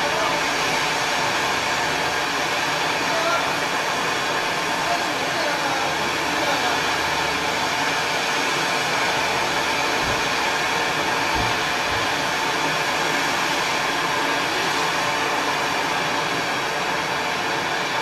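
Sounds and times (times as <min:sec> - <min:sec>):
firework fountain hissing: 0:00.0 - 0:18.0.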